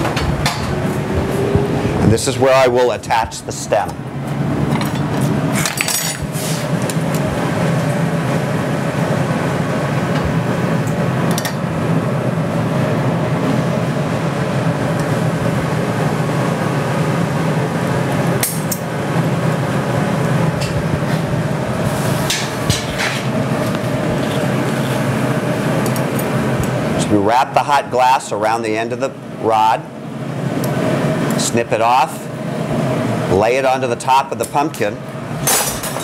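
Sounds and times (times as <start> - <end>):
furnace and burner drone: 0.0 - 36.0.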